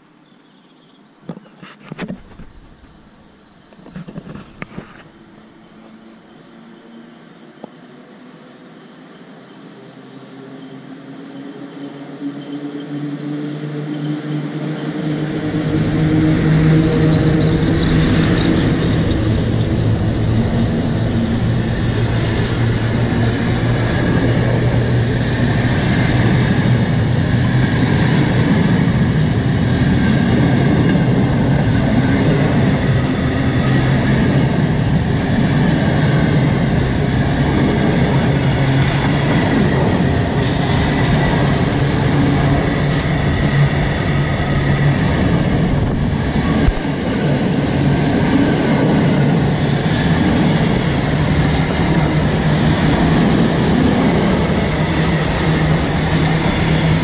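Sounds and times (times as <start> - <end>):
freight train passing: 2.4 - 57.0.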